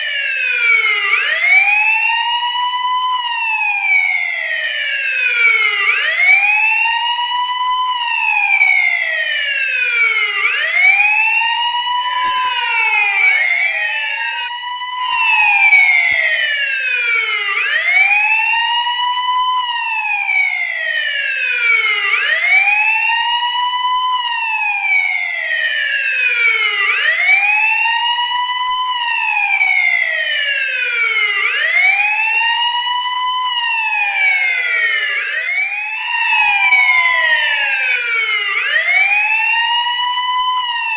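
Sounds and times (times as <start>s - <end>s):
police siren wailing: 0.0s - 40.9s
second siren wail: 0.0s - 40.9s.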